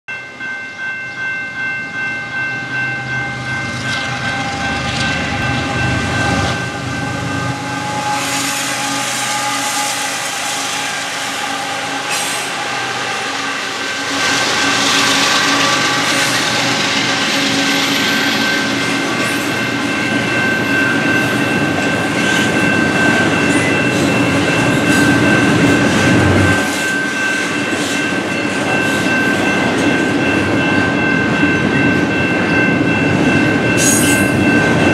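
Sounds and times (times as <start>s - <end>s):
level-crossing bell ringing: 0.1s - 8.9s, 10.8s - 34.9s
train wheels on rails: 0.1s - 34.9s.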